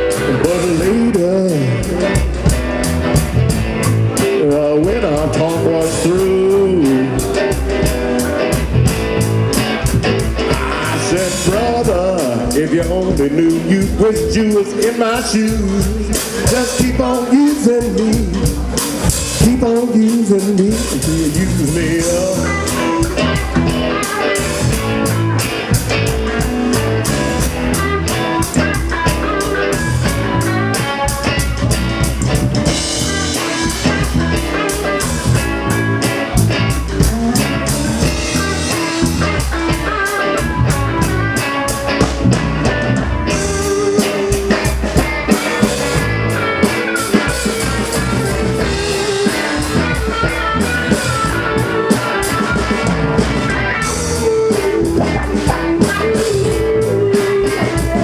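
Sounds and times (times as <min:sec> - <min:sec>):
bass: 0:00.0 - 0:58.0
drum kit beat: 0:00.0 - 0:58.0
guitar: 0:00.0 - 0:58.0.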